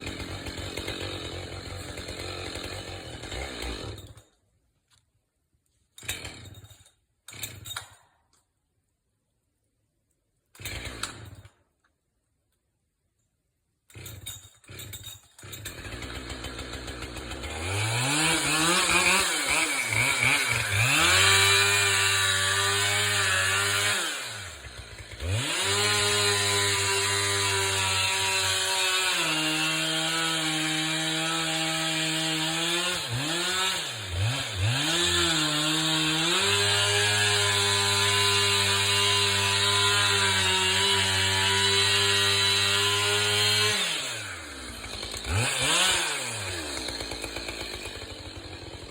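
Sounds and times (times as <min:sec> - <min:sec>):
chainsaw running: 0:00.0 - 0:04.3, 0:06.0 - 0:07.9, 0:10.6 - 0:11.6, 0:13.9 - 0:48.9.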